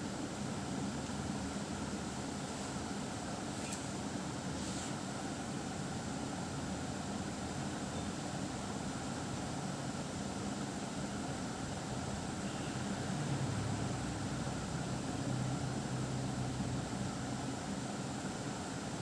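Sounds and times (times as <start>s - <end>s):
low hum with hiss: 0.0s - 19.0s.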